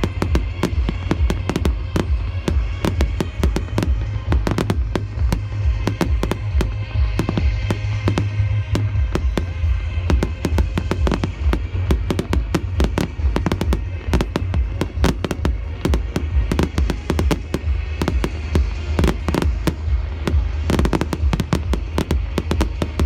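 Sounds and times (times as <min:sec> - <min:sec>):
deep rumble: 0:00.0 - 0:23.0
fireworks cracks and bangs: 0:00.0 - 0:23.0.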